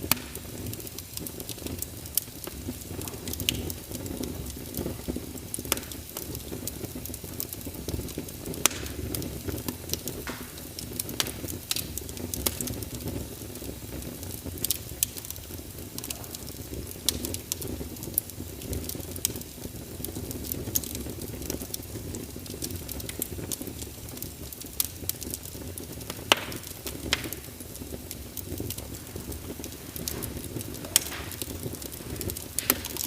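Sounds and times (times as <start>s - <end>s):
fireplace crackling: 0.0s - 33.0s.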